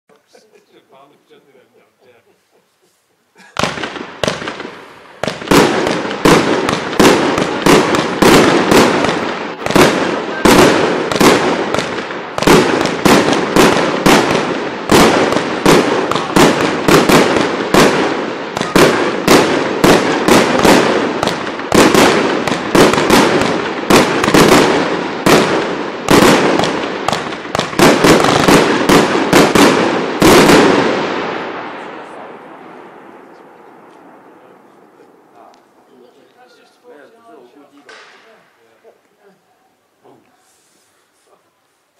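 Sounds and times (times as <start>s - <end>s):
fireworks bangs: 3.4s - 39.0s.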